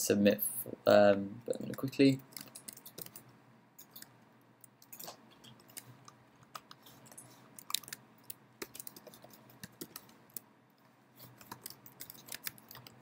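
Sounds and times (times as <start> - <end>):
faint keyboard typing: 1.1 - 10.5, 11.2 - 13.0.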